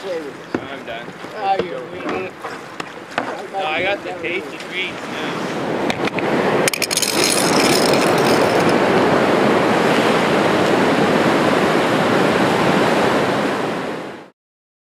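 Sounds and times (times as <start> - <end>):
water rushing over boulders: 0.0 - 14.3.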